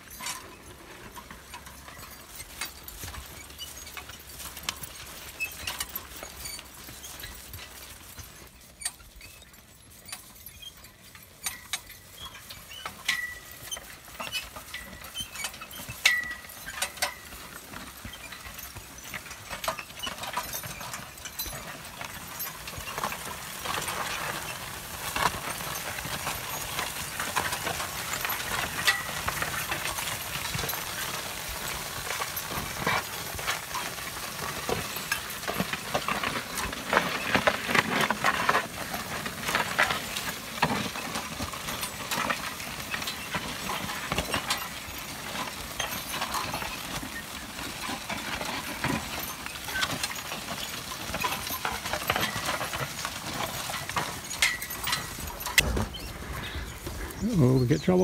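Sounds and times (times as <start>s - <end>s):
metal frame rattling: 0.0s - 58.0s
soil crackling over plow: 0.0s - 58.0s.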